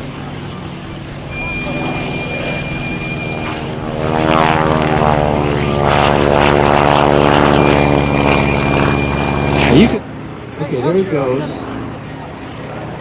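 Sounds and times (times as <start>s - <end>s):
propeller plane engine passing: 0.0s - 13.0s.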